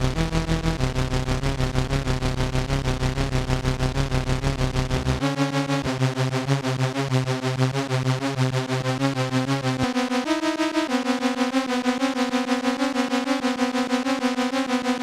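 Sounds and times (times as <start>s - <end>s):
synthesizer pulsing repeated notes: 0.0s - 15.0s.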